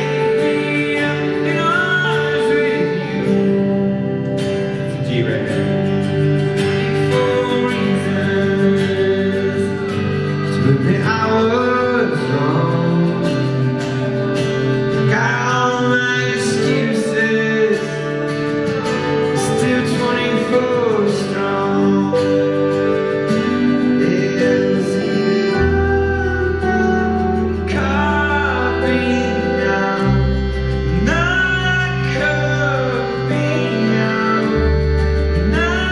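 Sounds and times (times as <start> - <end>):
live rock band playing: 0.0 - 35.9
man singing: 0.0 - 35.9.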